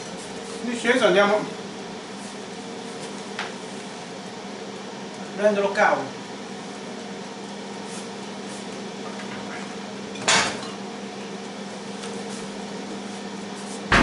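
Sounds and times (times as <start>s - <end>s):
air fryer fan humming: 0.0s - 14.0s.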